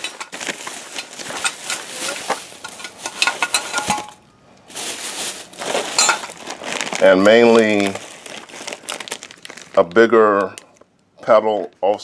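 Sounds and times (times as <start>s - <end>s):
plastic and paper rustling: 0.0s - 10.9s.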